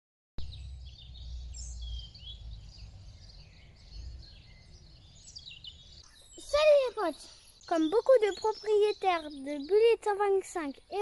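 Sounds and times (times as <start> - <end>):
songbirds chirping: 0.4 - 11.0.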